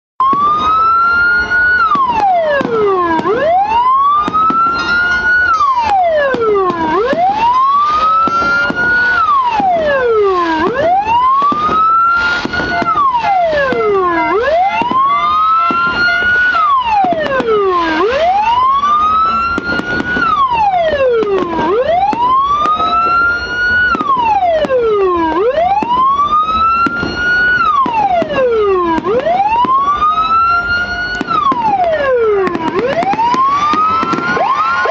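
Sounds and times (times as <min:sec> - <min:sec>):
wailing siren: 0:00.2 - 0:34.9.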